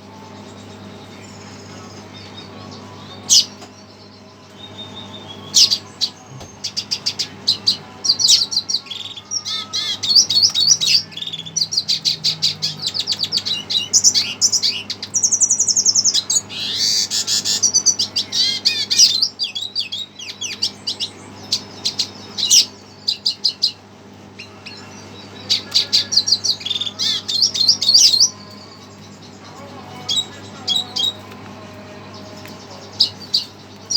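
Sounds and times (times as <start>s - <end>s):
bird singing high twittering trills: 0.0s - 33.9s
recorded bird song playing: 0.0s - 33.9s.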